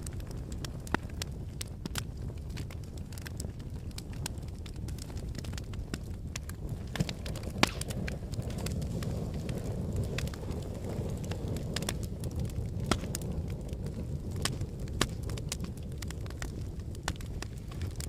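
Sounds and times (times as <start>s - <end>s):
fire popping and snapping: 0.0s - 18.0s
wood fire crackling: 0.0s - 18.0s.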